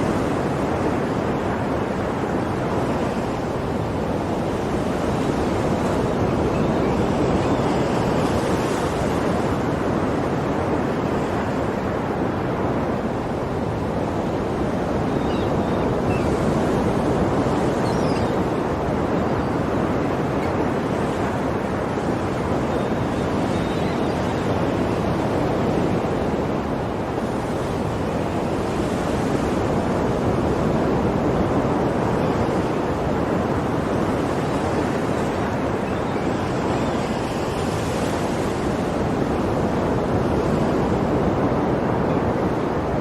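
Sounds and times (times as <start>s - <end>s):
sea waves washing on shore: 0.0s - 43.0s.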